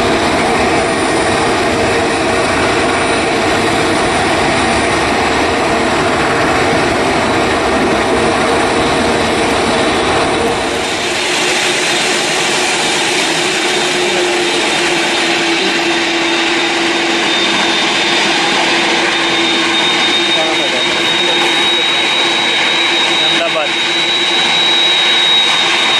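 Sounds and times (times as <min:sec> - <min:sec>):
jet engines whining and roaring: 0:00.0 - 0:25.9.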